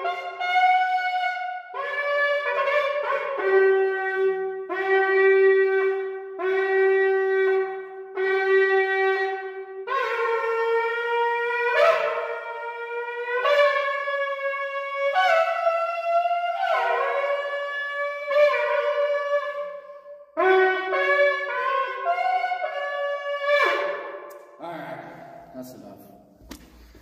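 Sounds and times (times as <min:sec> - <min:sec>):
shofar blasts: 0:00.0 - 0:26.3.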